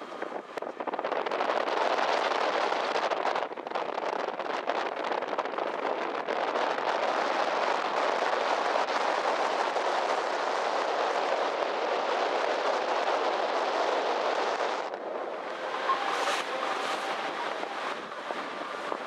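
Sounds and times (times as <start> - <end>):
water rushing along hull: 0.0 - 19.0
wind on microphone: 0.0 - 19.0.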